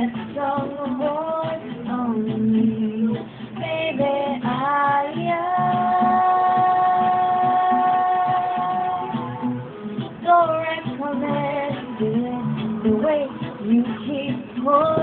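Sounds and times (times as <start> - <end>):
instrumental accompaniment: 0.0 - 15.0
person singing wordless melody: 0.0 - 15.0.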